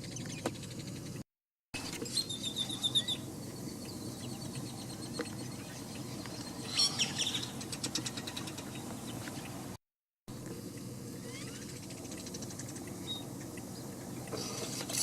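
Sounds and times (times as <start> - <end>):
birds chirping: 1.8 - 9.8, 10.5 - 15.0.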